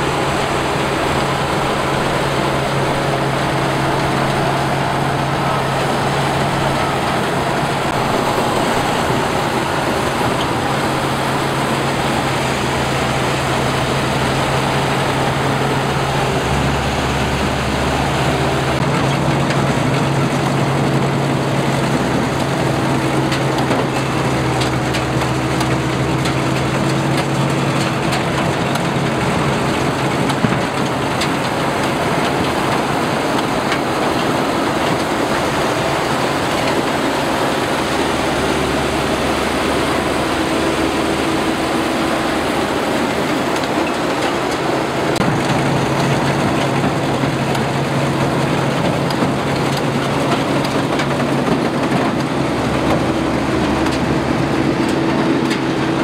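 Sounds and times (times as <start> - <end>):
combine harvester engine hum: 0.0 - 56.0
threshing machinery noise: 0.0 - 56.0.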